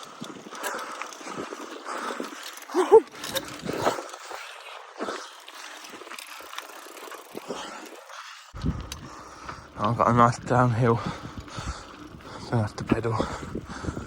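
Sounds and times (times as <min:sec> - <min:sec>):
bicycle rattling over dirt track: 0:00.0 - 0:14.0.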